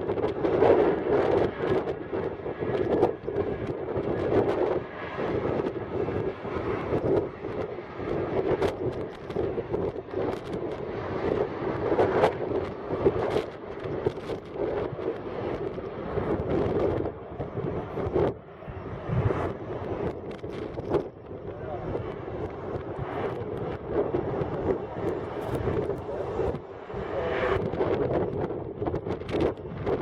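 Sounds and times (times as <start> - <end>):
jet engine roar: 0.0 - 30.0
wind buffeting microphone: 0.0 - 30.0.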